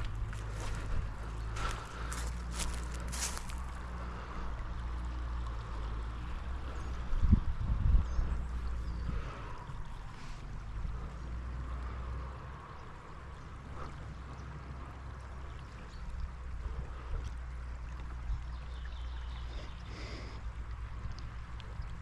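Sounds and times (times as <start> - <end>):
low microphone rumble: 0.0 - 22.0
stream water running: 0.0 - 22.0.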